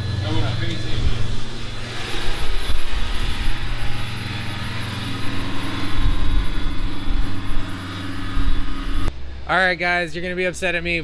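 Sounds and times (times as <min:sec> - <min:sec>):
boat diesel engines droning: 0:00.0 - 0:11.0
wind rushing: 0:00.3 - 0:09.1.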